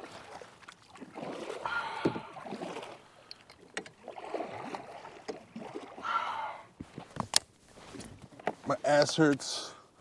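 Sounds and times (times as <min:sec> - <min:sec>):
river water sloshing and splashing: 0:00.0 - 0:08.8.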